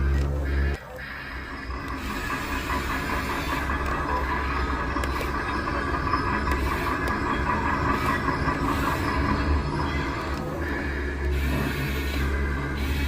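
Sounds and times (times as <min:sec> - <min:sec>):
model motor and gears running: 0:00.0 - 0:13.0.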